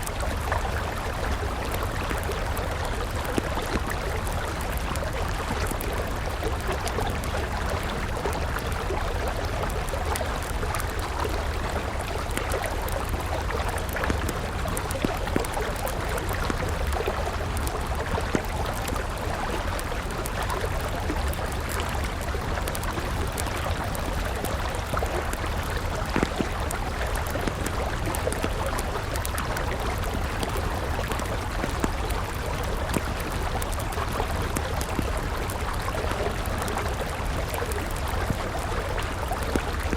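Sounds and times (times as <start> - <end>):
campfire crackling: 0.0 - 39.9
river water running: 0.0 - 39.9.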